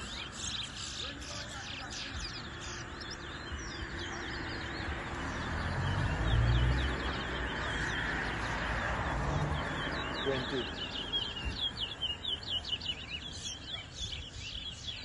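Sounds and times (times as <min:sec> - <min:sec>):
finch chirping song: 0:00.0 - 0:15.0.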